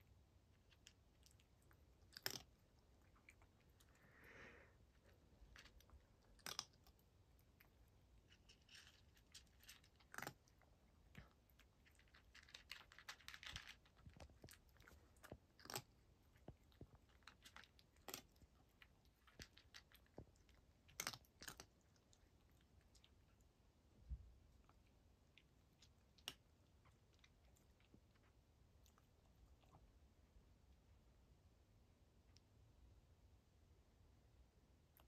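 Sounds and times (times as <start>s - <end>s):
cat chewing dry kibble: 0.0s - 30.3s.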